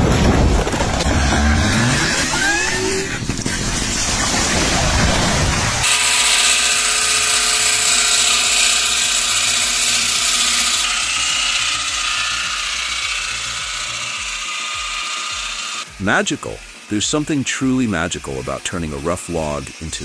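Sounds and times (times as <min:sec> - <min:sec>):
machine steady whine: 0:00.0 - 0:20.0.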